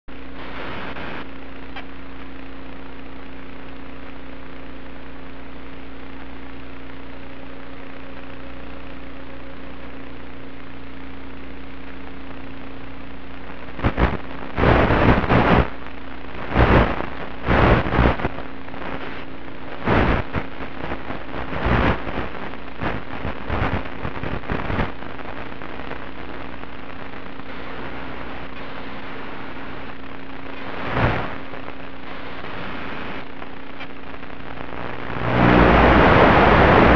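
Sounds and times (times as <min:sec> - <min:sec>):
hiss with steady hum: 0:00.1 - 0:36.9
static bursts: 0:00.1 - 0:36.9.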